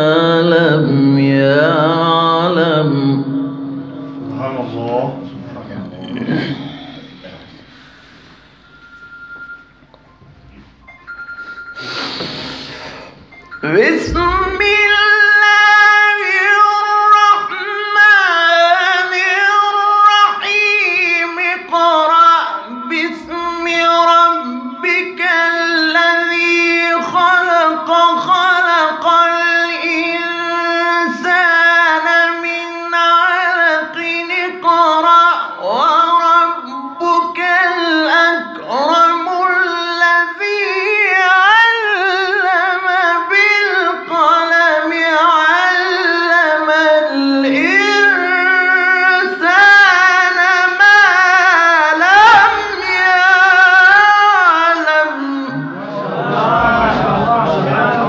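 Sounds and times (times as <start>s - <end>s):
man reciting melodically: 0.0s - 8.2s, 12.1s - 58.0s.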